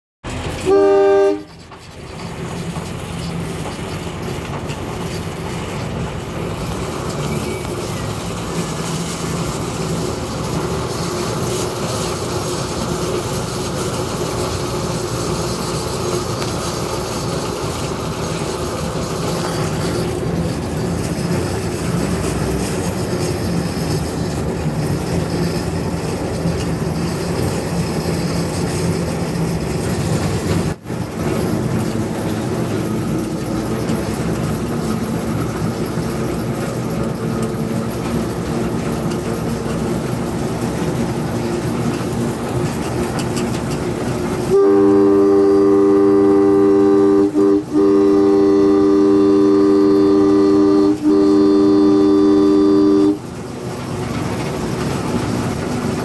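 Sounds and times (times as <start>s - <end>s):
locomotive engine running: 0.2s - 56.0s.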